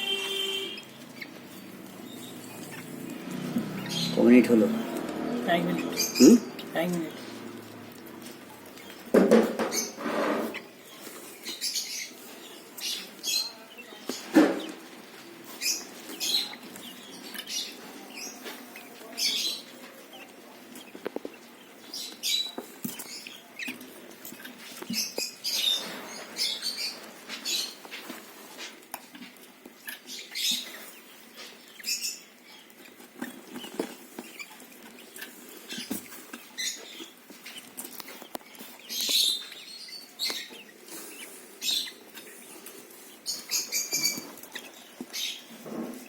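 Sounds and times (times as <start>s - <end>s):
chicks squeaky begging calls: 0.0s - 46.0s.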